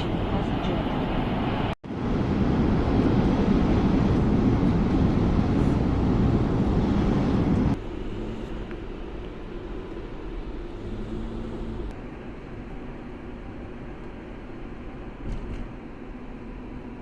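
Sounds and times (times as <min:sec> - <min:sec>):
train rumble from inside car: 0:00.0 - 0:17.0.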